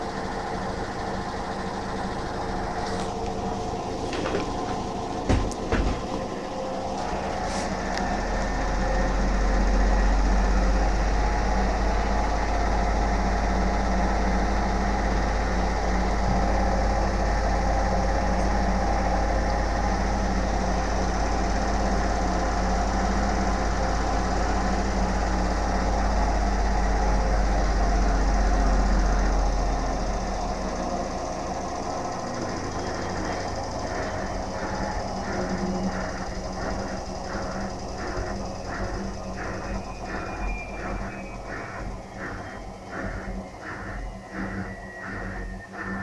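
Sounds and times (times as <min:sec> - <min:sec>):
washing machine spinning: 0:00.0 - 0:46.0.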